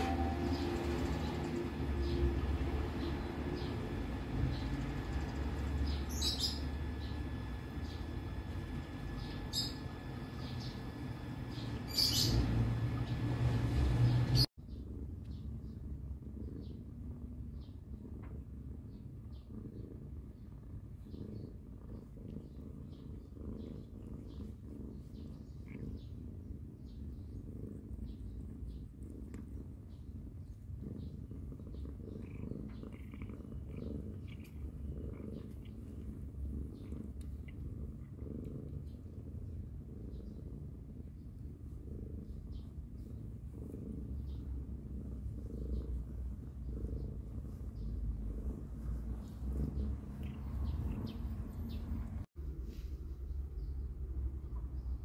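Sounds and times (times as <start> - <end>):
cat purring: 0.0 - 55.0
low steady rumble: 0.0 - 55.0.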